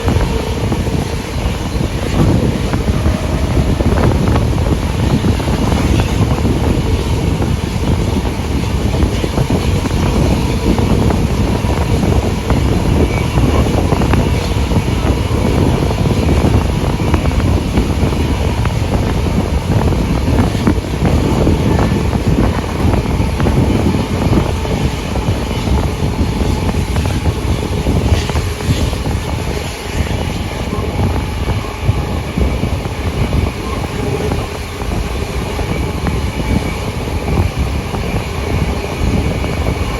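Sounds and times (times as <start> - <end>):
steam train running: 0.0 - 39.9
wind buffeting microphone: 0.0 - 39.9.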